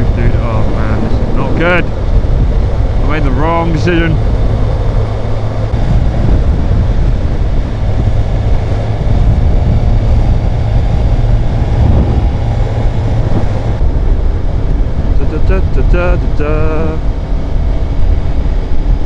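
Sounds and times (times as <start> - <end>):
motorcycle engine cruising: 0.0 - 19.0
wind rushing over microphone: 0.0 - 19.0.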